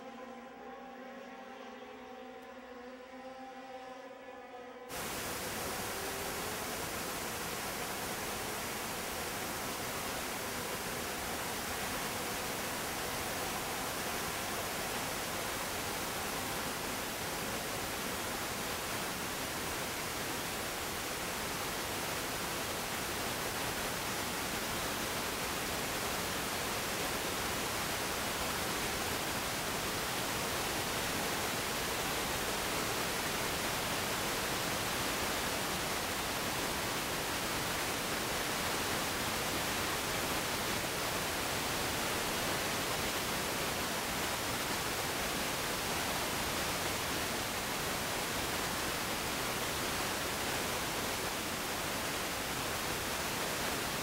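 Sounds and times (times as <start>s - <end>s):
static hiss: 4.9s - 54.0s.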